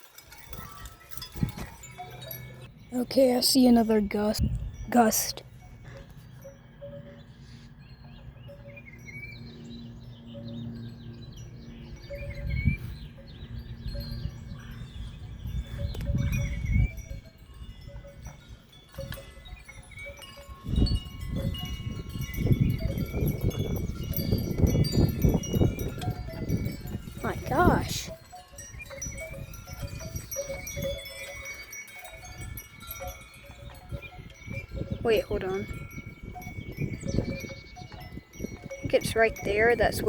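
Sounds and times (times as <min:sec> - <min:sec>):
high ringing tones: 0:00.0 - 0:40.0
wind buffeting microphone: 0:00.0 - 0:40.0.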